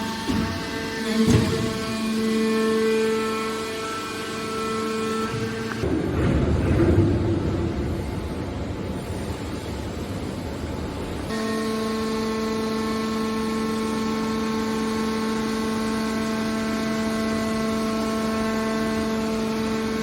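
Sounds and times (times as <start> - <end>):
machine hum with drone: 0.0 - 20.0
rough noisy machine: 0.0 - 20.0.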